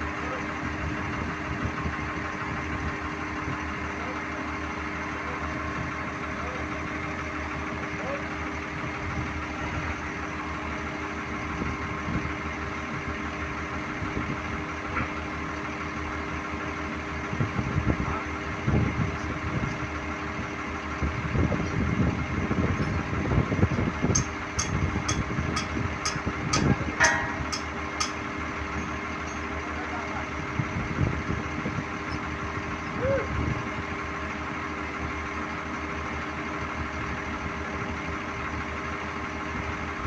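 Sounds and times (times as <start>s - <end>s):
machinery drone: 0.0s - 39.9s.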